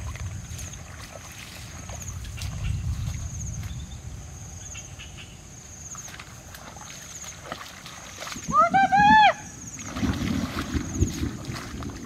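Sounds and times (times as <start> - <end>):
insect trill: 0.3 - 8.6, 9.2 - 11.4.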